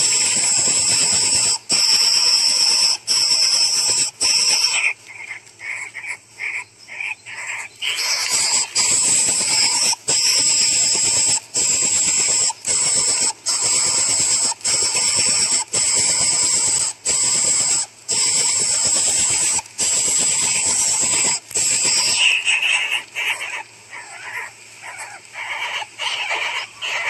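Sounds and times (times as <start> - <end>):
nestling hissing buzz: 0.0 - 5.0, 7.8 - 27.0.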